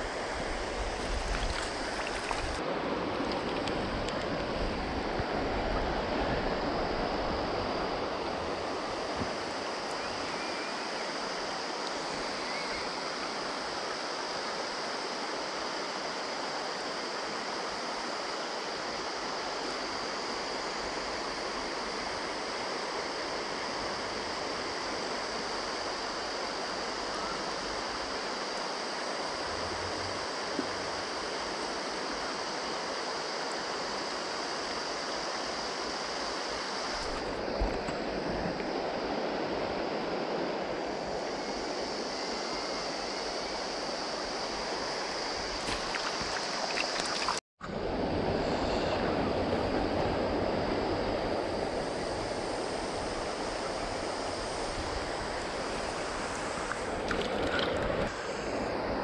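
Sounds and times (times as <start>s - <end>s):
river water flowing: 0.0s - 47.4s, 49.2s - 59.0s.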